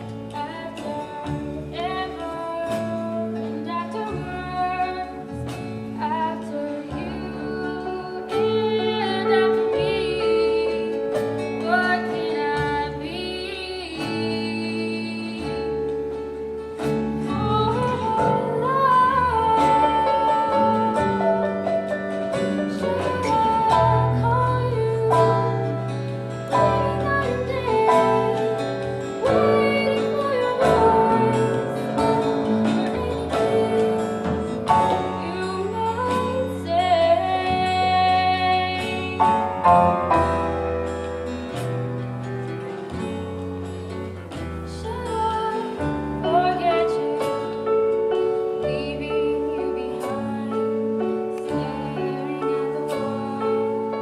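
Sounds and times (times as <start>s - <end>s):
woman singing: 0.0s - 40.7s, 42.9s - 54.0s
instrumental accompaniment: 0.0s - 54.0s.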